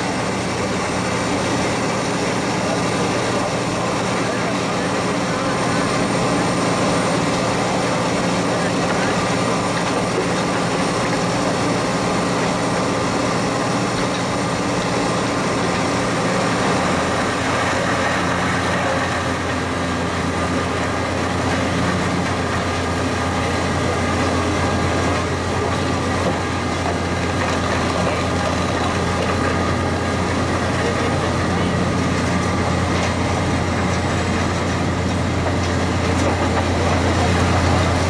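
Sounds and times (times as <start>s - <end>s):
wood chipper running: 0.0s - 38.0s.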